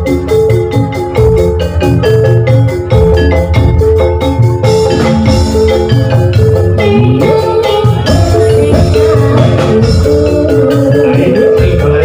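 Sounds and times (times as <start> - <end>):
bamboo percussion melody: 0.0 - 12.0
deep drum beats: 0.0 - 12.0.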